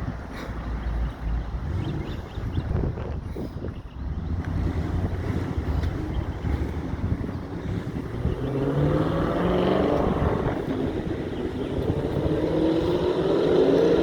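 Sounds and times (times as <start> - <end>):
low wind rumble: 0.0 - 14.0
vehicles passing on road: 0.0 - 14.0.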